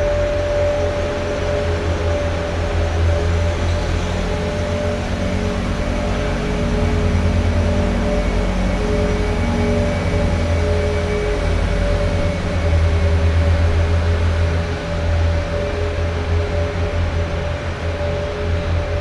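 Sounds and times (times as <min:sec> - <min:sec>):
ice resurfacer engine humming: 0:00.0 - 0:19.0.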